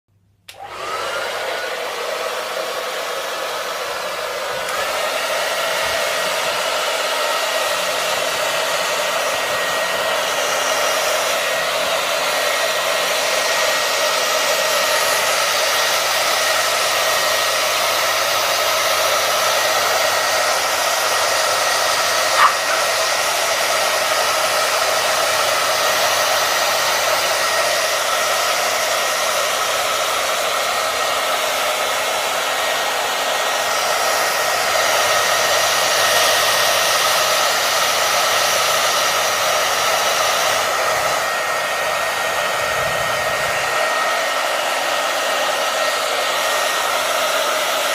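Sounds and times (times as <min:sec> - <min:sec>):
hair dryer running: 0:00.4 - 0:47.9.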